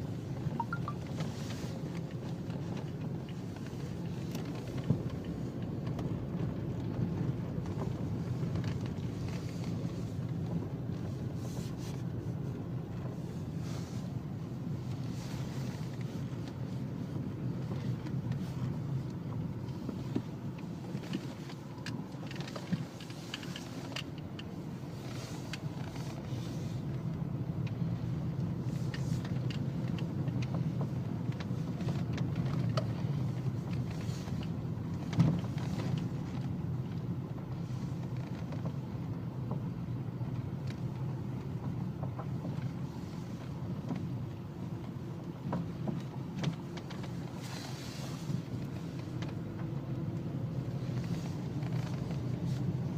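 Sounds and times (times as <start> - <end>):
car engine low rumble: 0.0 - 52.9.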